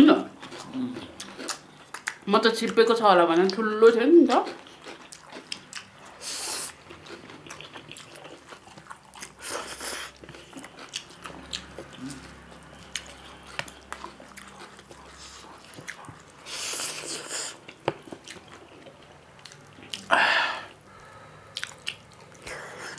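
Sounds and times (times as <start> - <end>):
chewing with wet mouth clicks: 0.4 - 3.6, 4.3 - 20.1, 21.5 - 22.9.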